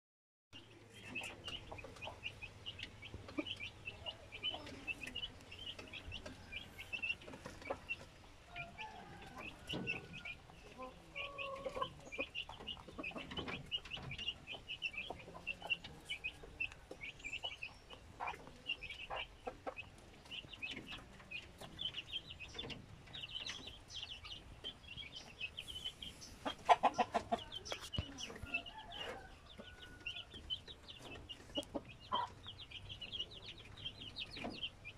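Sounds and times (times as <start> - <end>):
chickens clucking: 0.6 - 34.9.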